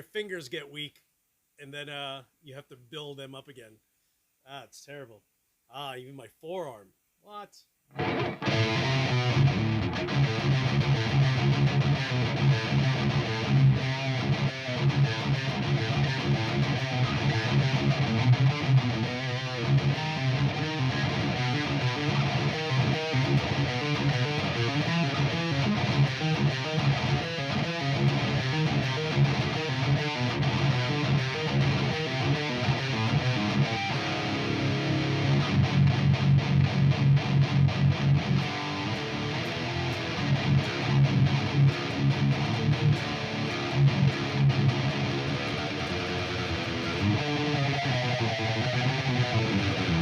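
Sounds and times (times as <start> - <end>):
electric guitar: 7.9 - 50.0.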